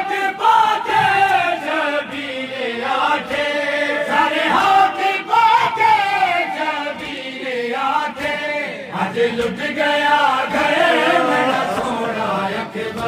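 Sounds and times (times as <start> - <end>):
men chanting into a microphone: 0.0 - 13.0.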